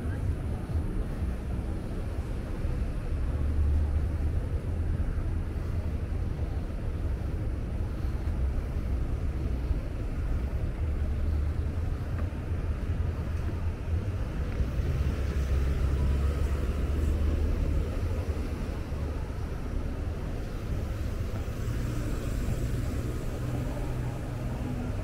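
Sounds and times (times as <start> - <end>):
cars passing rumble: 0.0 - 25.0.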